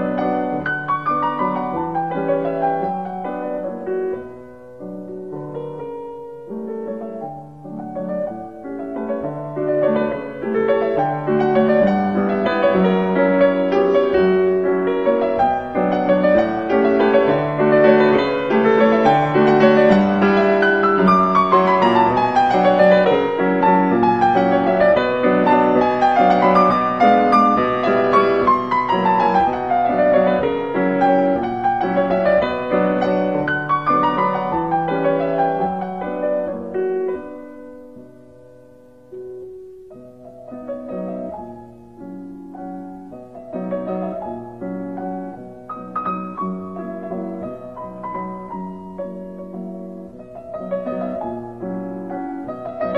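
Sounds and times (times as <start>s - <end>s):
solo piano melody: 0.0s - 52.9s.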